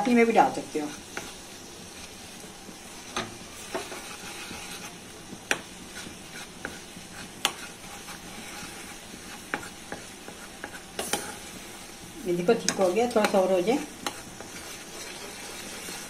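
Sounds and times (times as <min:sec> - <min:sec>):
steady hiss: 0:00.0 - 0:16.0
ladle stirring in saucepan: 0:00.1 - 0:16.0.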